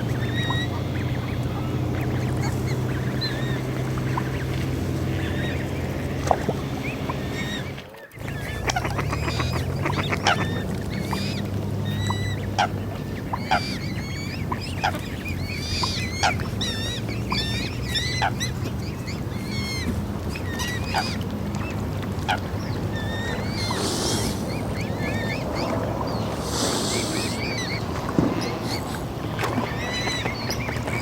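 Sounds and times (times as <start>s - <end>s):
steady low hum: 0.0s - 31.0s
swans calling: 0.0s - 31.0s.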